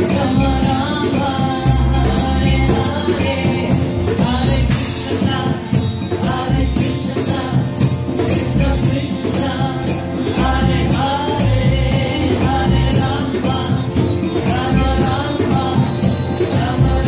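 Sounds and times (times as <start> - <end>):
hand percussion beat: 0.0 - 17.0.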